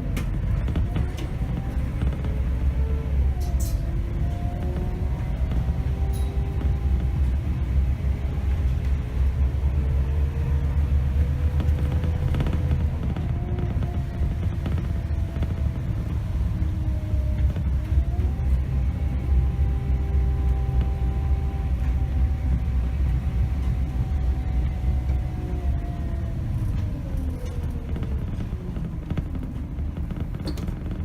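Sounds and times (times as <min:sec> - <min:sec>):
bus engine and road rumble: 0:00.0 - 0:31.0
drivetrain whine: 0:00.0 - 0:31.0.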